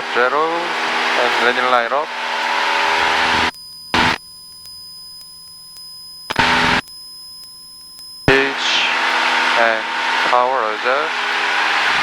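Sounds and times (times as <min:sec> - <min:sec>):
faint electronic hum: 0:00.0 - 0:12.0.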